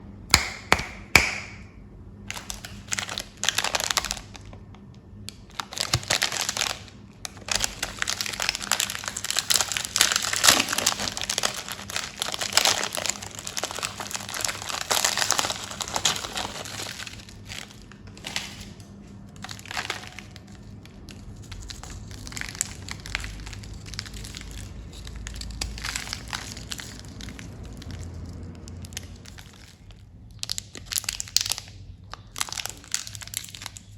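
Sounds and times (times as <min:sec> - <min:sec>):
candy wrappers crinkling: 0:02.3 - 0:33.9.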